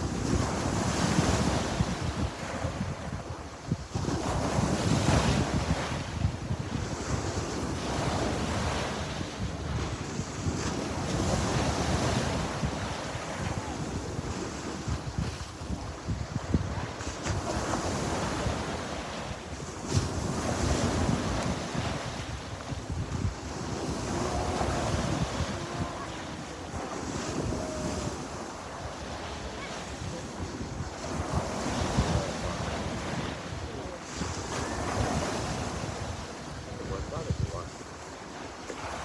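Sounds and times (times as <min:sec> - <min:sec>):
waves breaking: 0:00.0 - 0:39.0
wind buffeting microphone: 0:00.0 - 0:39.0.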